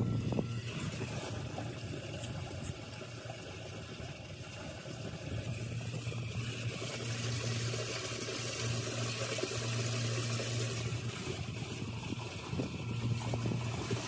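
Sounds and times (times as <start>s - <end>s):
floodwater rushing into drain: 0.0s - 14.0s
low hum: 0.0s - 14.0s.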